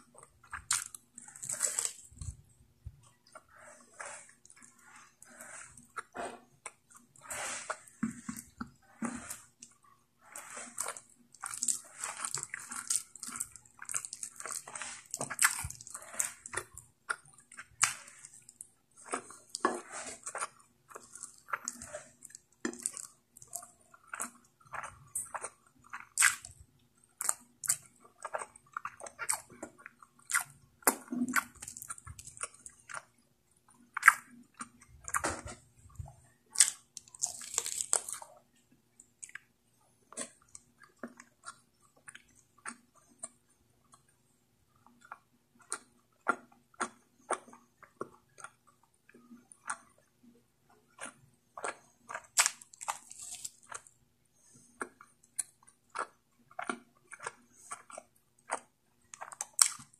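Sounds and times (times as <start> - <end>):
wet chewing and mouth smacking: 0.0 - 59.9.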